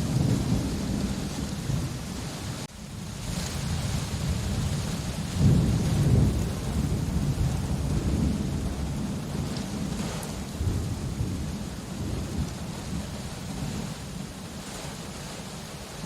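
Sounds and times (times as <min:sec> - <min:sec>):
thunder rumbling: 0:00.0 - 0:15.7
steady rain: 0:00.0 - 0:16.0.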